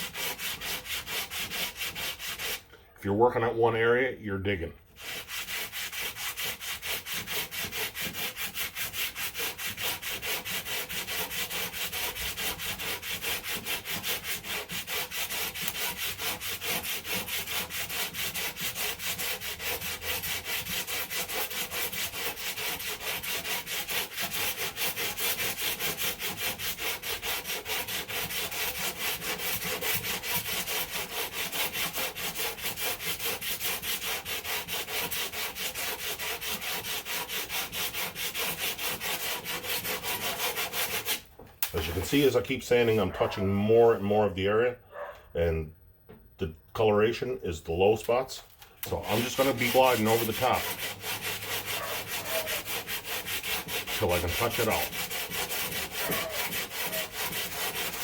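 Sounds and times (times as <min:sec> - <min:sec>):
sandpaper sanding filler: 0:00.0 - 0:02.6, 0:05.0 - 0:42.4, 0:48.9 - 0:58.0.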